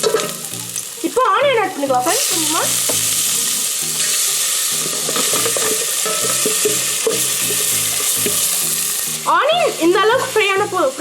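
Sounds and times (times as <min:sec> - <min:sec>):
onion frying in oil: 0:00.0 - 0:11.0.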